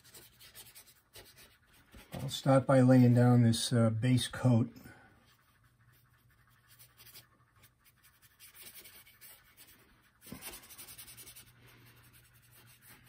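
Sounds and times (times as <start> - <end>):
paintbrush scrubbing on canvas: 0.0 - 3.4, 5.2 - 13.0.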